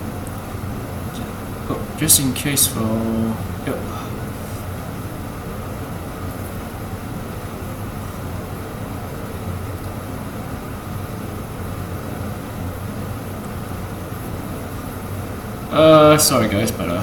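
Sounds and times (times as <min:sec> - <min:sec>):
low hum and rumble: 0:00.0 - 0:17.0.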